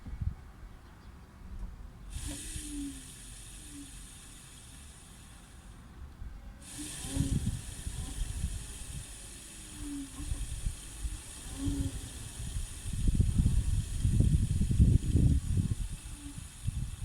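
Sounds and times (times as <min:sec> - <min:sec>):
electric cooling fan hissing: 0:02.0 - 0:17.0.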